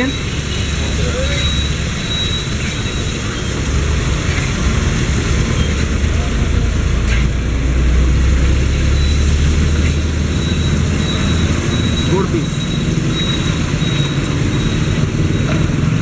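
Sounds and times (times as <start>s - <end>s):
low engine rumble: 0.0s - 16.0s
motorcycle engines passing: 0.0s - 16.0s.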